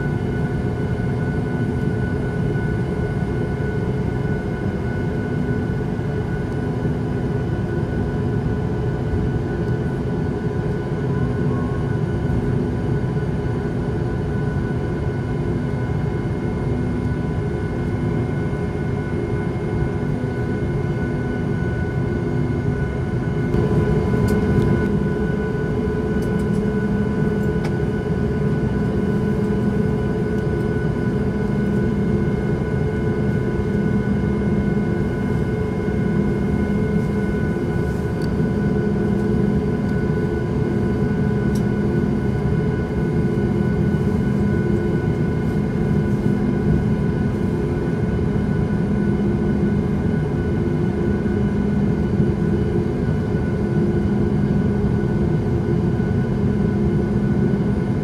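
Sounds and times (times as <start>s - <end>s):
airliner engine drone: 0.0s - 58.0s.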